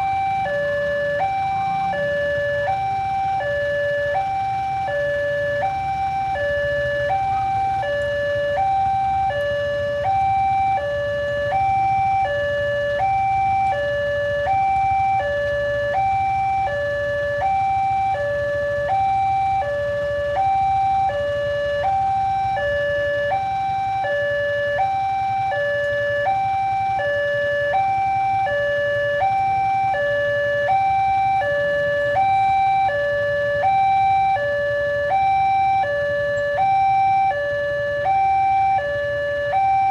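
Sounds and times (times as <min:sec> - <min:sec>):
level crossing alarm: 0:00.0 - 0:39.9.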